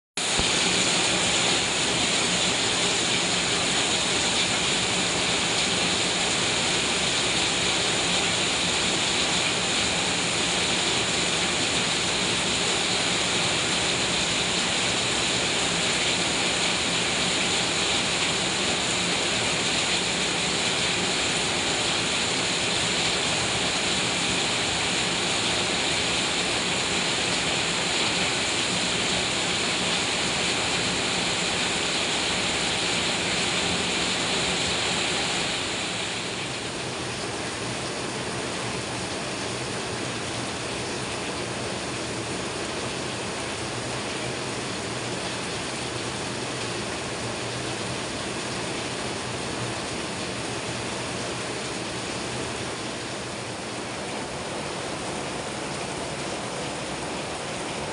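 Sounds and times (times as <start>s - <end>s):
heavy rain on sheet roof: 0.2s - 57.9s
rain on broad leaves: 0.2s - 57.9s
runoff streaming off roof: 0.2s - 57.9s.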